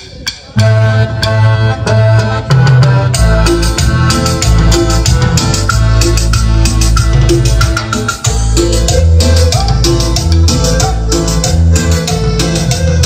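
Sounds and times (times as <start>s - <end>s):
electronic keyboard chords: 0.0s - 13.0s
bass line: 0.4s - 13.0s.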